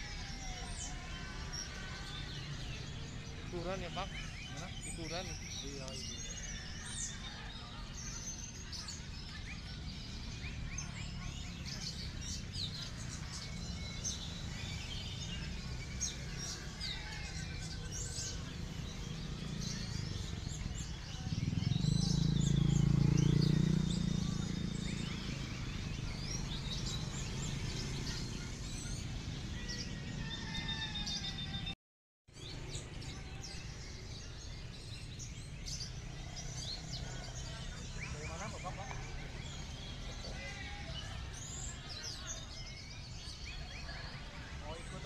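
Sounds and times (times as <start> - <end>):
songbirds chirping and whistling: 0.0 - 45.0.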